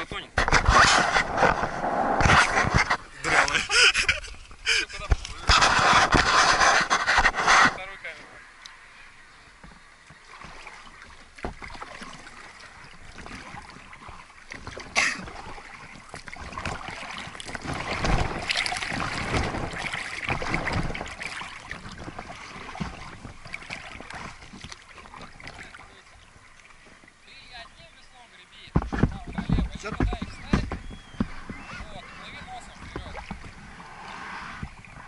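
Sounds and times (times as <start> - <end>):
wind rumbling on microphone: 0.0 - 8.2, 12.8 - 27.1, 28.7 - 35.0
water splashing and sloshing: 0.0 - 35.0.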